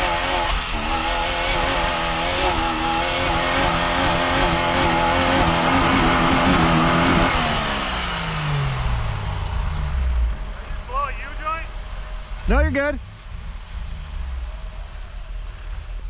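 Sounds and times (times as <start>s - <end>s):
off-road engine revving hard: 0.0s - 10.5s, 12.4s - 16.0s.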